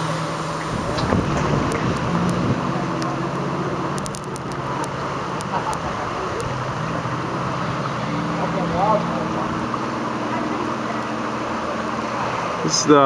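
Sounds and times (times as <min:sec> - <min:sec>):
low hum: 0:00.0 - 0:13.0
river water rushing: 0:00.0 - 0:13.0.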